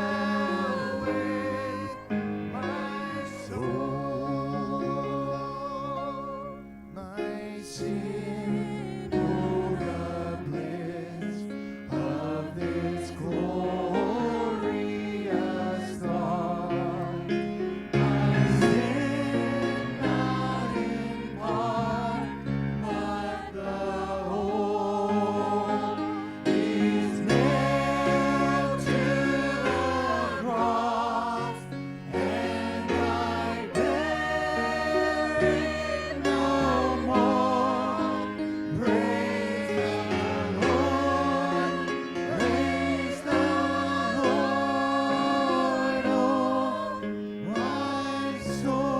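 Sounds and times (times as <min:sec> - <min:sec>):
choir singing slow song: 0:00.0 - 0:48.9
instrumental backing: 0:00.0 - 0:48.9.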